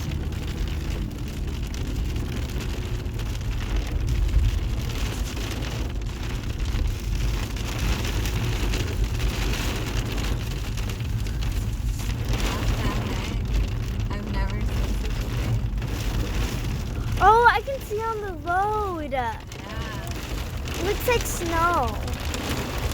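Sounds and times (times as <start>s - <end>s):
hailstones pelting down: 0.0s - 22.9s
low rumble: 0.0s - 22.9s.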